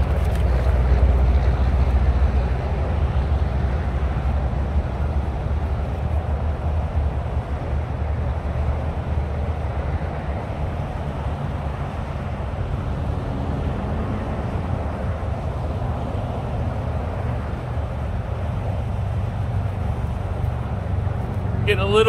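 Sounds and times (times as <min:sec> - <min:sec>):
highway traffic rumble: 0:00.0 - 0:22.0.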